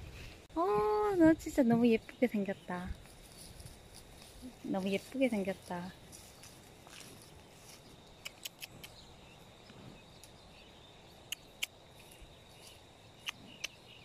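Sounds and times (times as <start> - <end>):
faint insect drone: 0.5 - 14.0.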